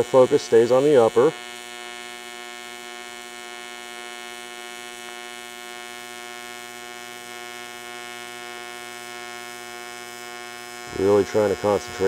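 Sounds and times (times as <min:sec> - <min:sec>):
welding arc buzzing: 0:00.0 - 0:12.0.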